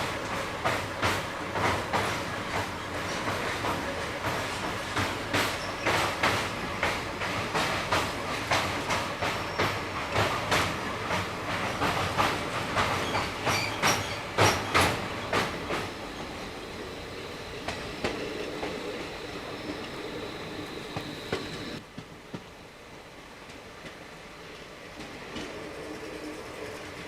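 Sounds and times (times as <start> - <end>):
train wheels clicking over rail joints: 0.0 - 22.6
steady train rumble: 0.0 - 27.0.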